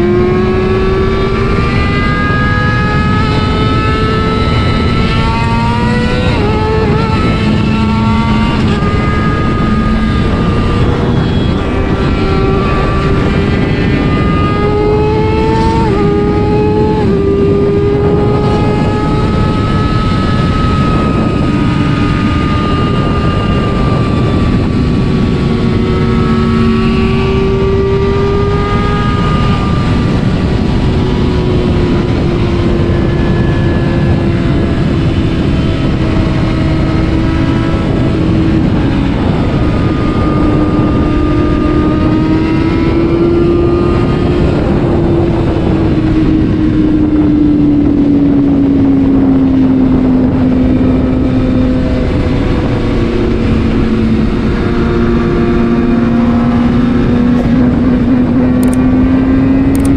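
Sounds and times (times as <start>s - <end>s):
motorcycle engine running hard: 0.0s - 59.9s
wind rush: 0.0s - 59.9s.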